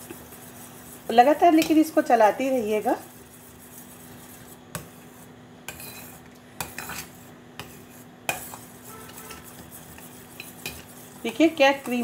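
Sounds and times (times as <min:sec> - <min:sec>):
spoon scraping a pan: 0:00.0 - 0:12.0.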